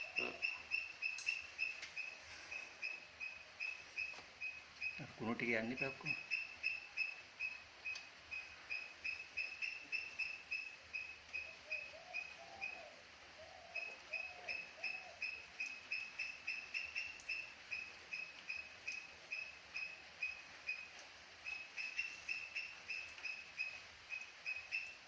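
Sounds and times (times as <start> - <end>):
fainter lower bird calls: 0.0 - 25.0.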